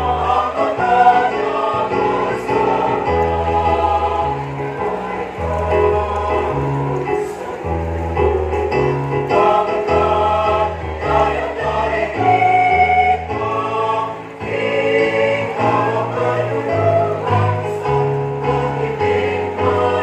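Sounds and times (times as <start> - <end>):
mixed choir singing: 0.0 - 20.0.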